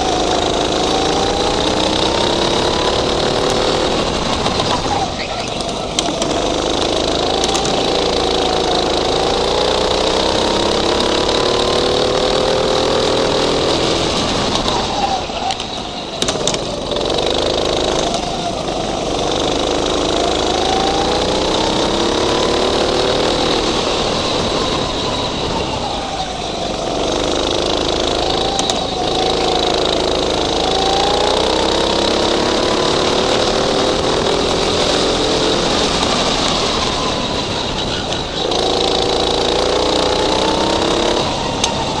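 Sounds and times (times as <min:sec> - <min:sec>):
go-kart engine revving: 0:00.0 - 0:42.0.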